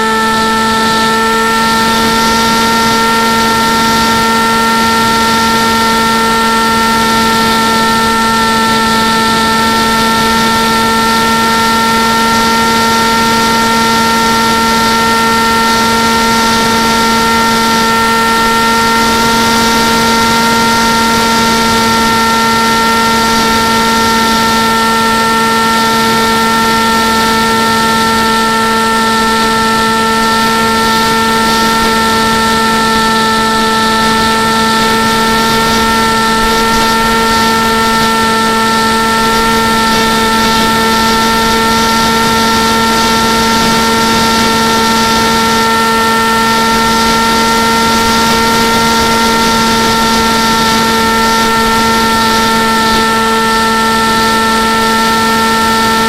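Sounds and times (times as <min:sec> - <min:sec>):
model airplane motor and propeller: 0:00.0 - 0:56.0.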